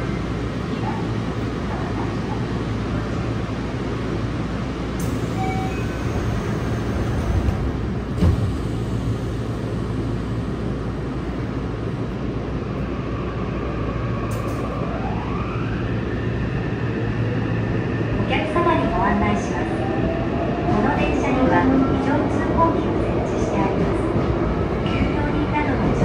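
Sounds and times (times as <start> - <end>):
subway car low rumble: 0.0 - 26.0.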